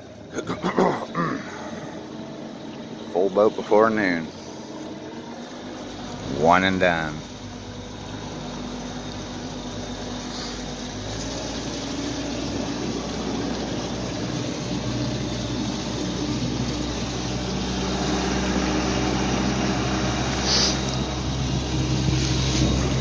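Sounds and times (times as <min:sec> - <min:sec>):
outboard motor running: 0:00.0 - 0:23.0
water rushing along hull: 0:00.0 - 0:23.0.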